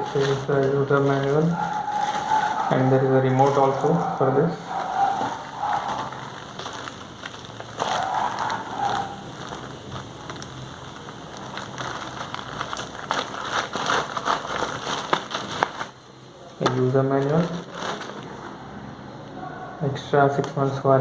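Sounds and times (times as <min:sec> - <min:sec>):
packaging rustling and crinkling: 0:00.0 - 0:18.9.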